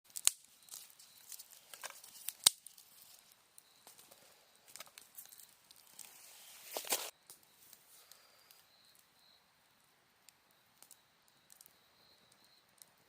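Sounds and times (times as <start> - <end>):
campfire crackling and popping: 0.0 - 13.0
insects trilling: 0.1 - 13.0.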